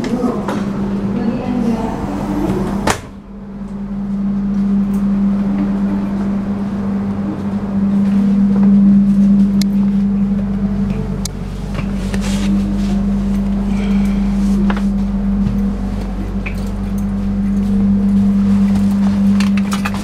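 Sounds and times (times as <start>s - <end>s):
low machinery hum in train carriage: 0.0s - 20.0s.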